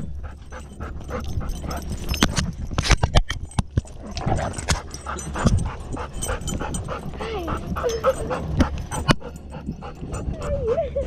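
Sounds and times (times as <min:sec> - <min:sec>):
low rumble of handling and wind: 0:00.0 - 0:11.0.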